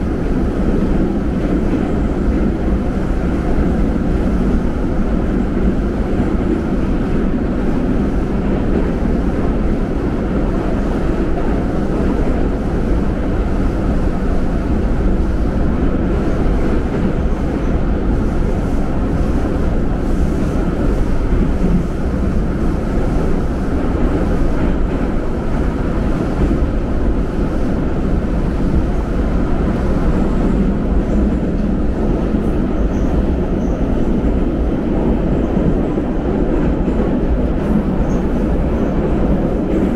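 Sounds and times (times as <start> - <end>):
subway train wheels rumbling: 0.0 - 39.9.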